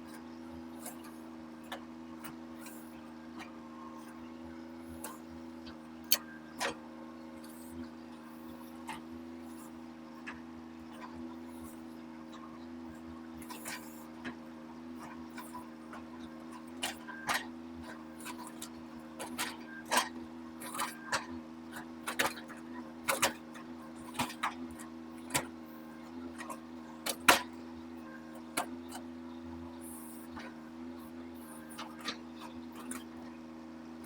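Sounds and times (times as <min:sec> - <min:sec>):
mini excavator humming: 0:00.0 - 0:34.0.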